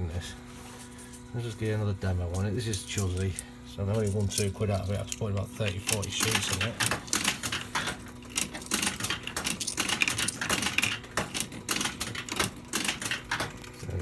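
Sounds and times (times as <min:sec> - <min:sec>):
coins clattering into fruit machine: 0:00.7 - 0:13.8.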